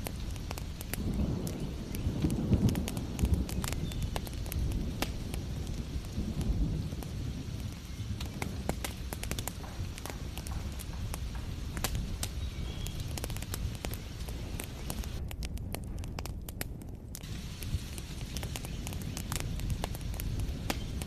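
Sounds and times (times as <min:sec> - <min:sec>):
heavy rain hiss: 0:00.0 - 0:15.2, 0:17.2 - 0:21.0
wood fire crackling and popping: 0:00.0 - 0:21.0.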